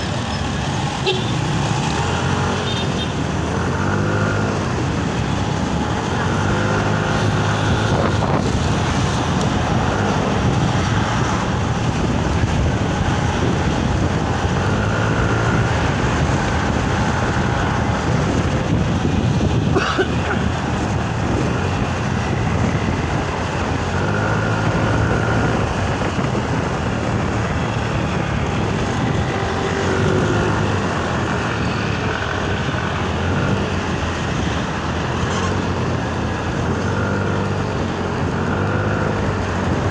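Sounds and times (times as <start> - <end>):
road traffic: 0.0 - 39.9
wind rushing over microphone: 0.0 - 39.9.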